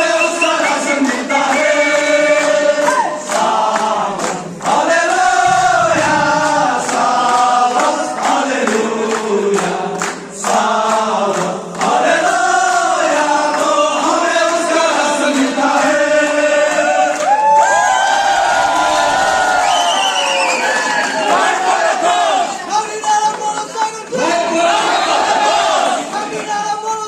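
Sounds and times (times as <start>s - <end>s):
group of voices singing: 0.0s - 17.8s, 18.4s - 27.0s.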